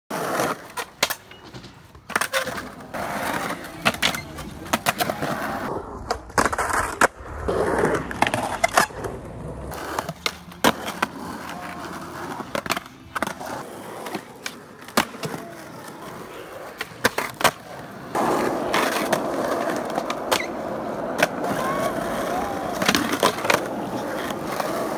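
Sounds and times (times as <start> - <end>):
skateboard clacks: 0.1 - 24.9
skateboard wheels rolling on concrete: 0.1 - 24.9.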